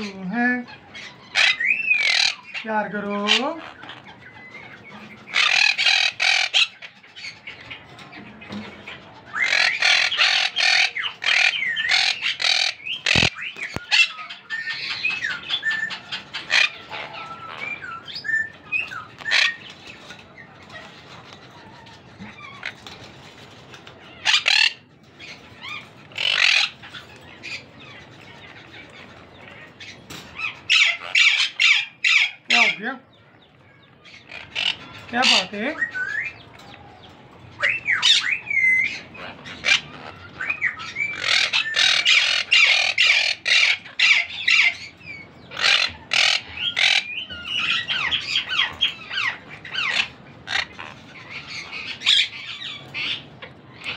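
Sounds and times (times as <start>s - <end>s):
parrot chicks calling harshly: 0.0s - 53.9s.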